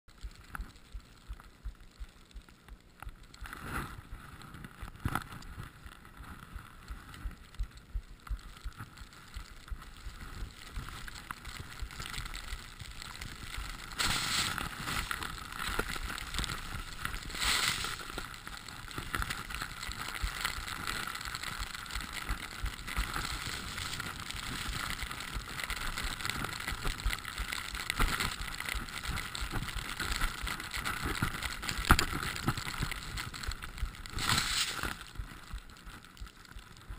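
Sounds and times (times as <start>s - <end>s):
skis running through snow: 5.6s - 36.9s.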